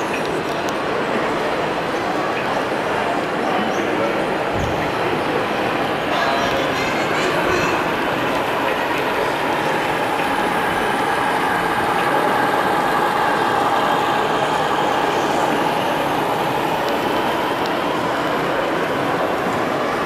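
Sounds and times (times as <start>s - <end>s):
model train running: 0.0s - 20.0s.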